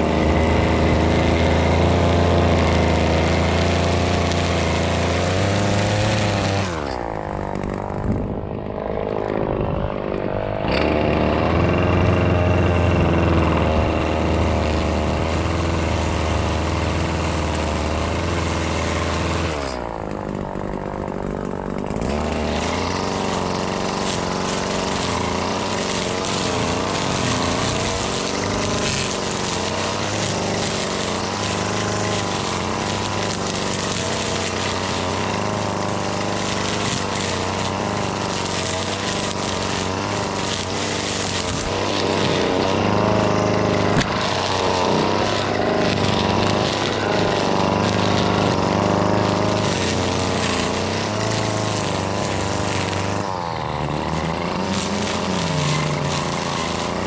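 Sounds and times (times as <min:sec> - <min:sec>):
string trimmer engine: 0:00.0 - 0:57.0.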